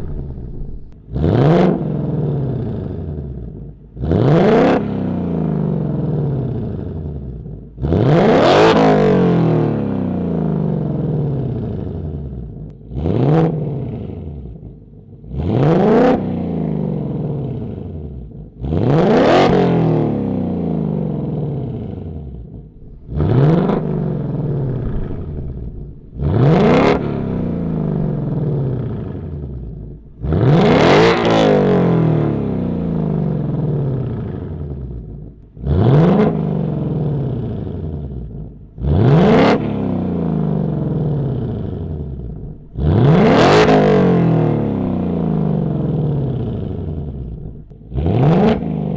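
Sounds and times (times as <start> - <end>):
car engine revving from idle: 0.0 - 48.9.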